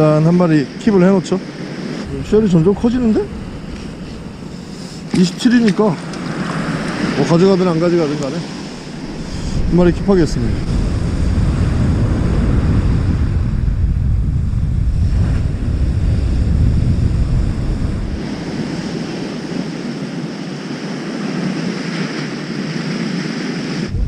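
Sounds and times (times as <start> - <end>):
surf breaking on beach: 0.0 - 14.2, 14.8 - 24.0
wind buffeting microphone: 0.0 - 24.0.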